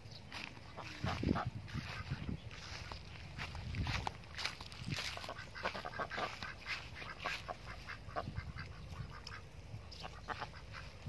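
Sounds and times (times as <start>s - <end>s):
ducks quacking: 0.3s - 11.0s.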